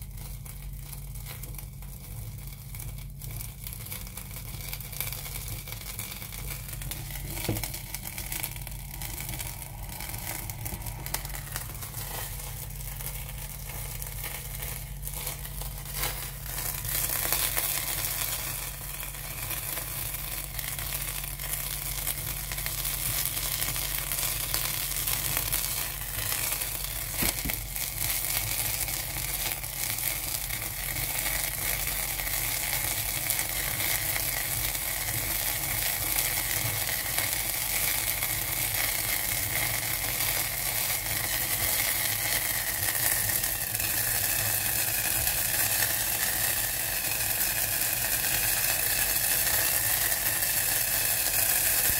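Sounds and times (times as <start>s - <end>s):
crackling sizzle in saucepan: 0.0s - 51.9s.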